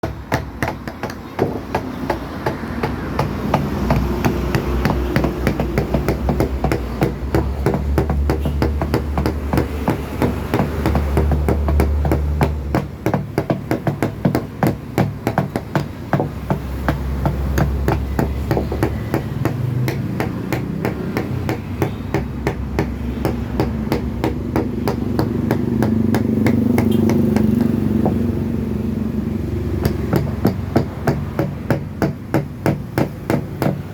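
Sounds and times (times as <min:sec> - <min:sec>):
mallet tapping chisel into wood: 0:00.0 - 0:28.3, 0:29.7 - 0:33.9.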